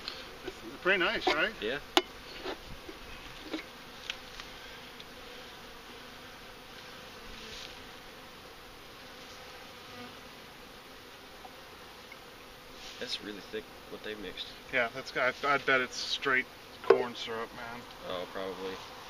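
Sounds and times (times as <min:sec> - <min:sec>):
honeybees buzzing: 0:00.0 - 0:19.0.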